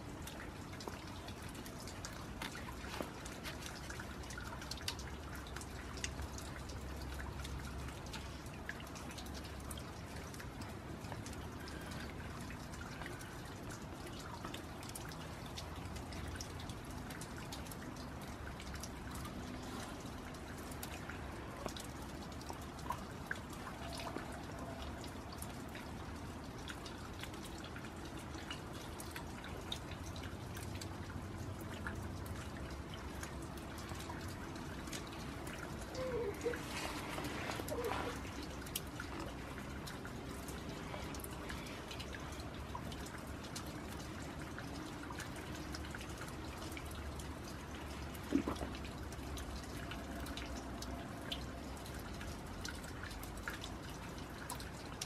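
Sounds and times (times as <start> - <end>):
drops ticking and pattering: 0.0 - 55.0
rain falling: 0.0 - 55.0.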